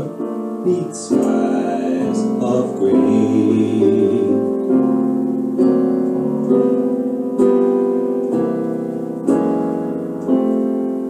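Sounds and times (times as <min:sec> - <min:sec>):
keyboard playing jazz chords: 0:00.0 - 0:11.0.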